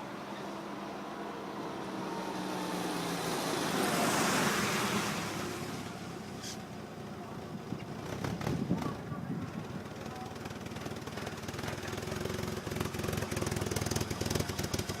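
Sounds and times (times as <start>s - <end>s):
low engine hum: 0.0s - 15.0s
road vehicle passing by: 0.0s - 15.0s.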